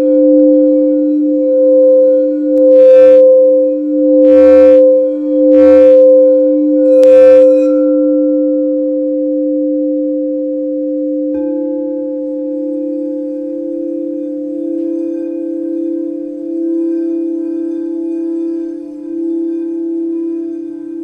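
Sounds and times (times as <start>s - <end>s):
bright bowl strike: 0.0s - 21.0s
singing bowls ringing: 0.0s - 21.0s.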